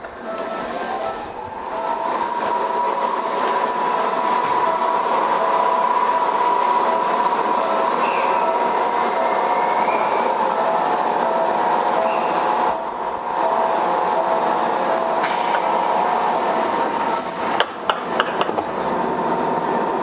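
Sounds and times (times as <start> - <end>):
electric train running: 0.0 - 20.0
high whine: 0.0 - 20.0.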